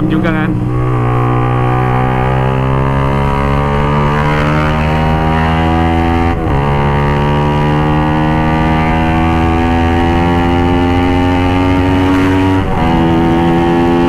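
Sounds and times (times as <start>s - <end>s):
raspy motorcycle engine: 0.0s - 14.0s.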